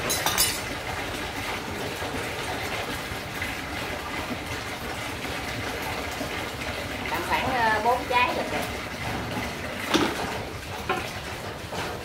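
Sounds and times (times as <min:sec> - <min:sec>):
tap water running into basin: 0:00.0 - 0:12.0.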